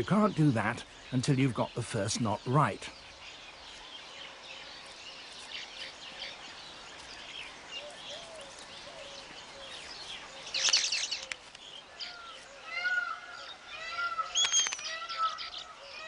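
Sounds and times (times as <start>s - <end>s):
birds chattering: 0.0s - 16.0s.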